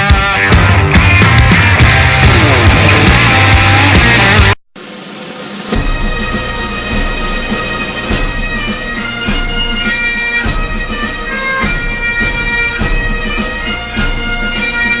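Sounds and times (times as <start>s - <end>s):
drum beat: 0.1s - 15.0s
bagpipe melody over drone: 1.8s - 15.0s.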